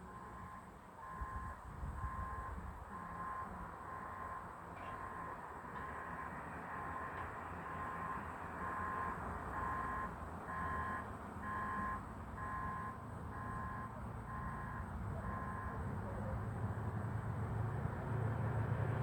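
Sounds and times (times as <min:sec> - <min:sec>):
reversing alarm beeping: 0:00.0 - 0:15.9.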